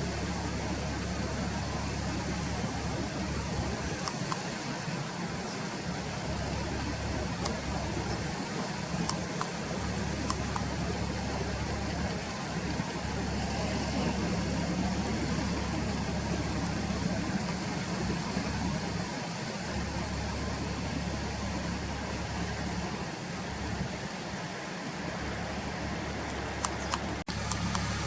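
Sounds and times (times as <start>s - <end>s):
distant engine rumble: 0.0s - 28.0s.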